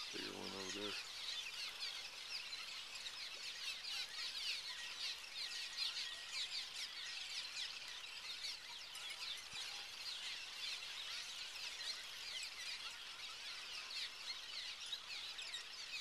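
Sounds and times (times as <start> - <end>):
swallows chattering: 0.0 - 16.0.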